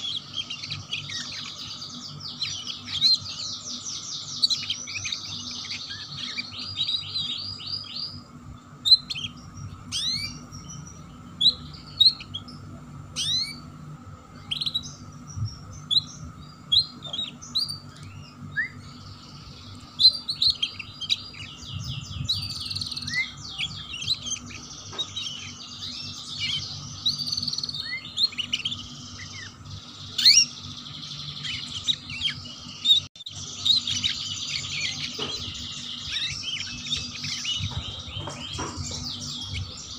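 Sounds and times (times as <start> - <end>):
canary singing trills: 0.0 - 39.9
steady low hum: 0.0 - 39.9.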